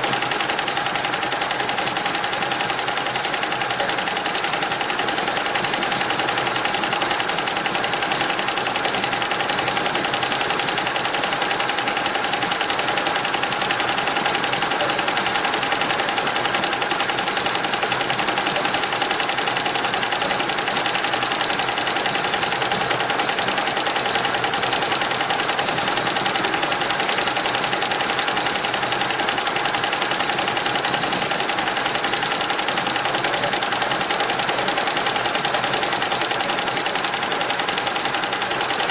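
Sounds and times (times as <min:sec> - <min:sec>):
embroidery machine stitching rattle: 0:00.0 - 0:38.9.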